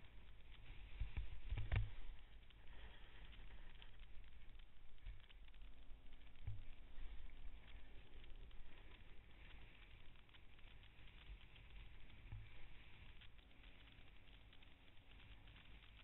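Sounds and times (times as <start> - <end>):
snowboard gliding over snow: 0.0 - 16.0.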